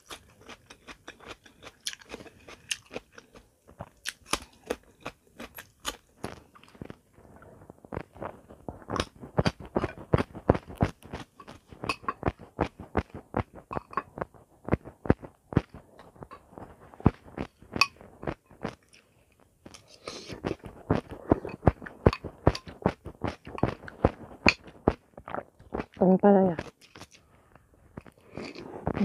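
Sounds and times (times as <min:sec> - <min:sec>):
crunchy chewing of vegetables: 0:00.0 - 0:26.0, 0:26.6 - 0:29.0.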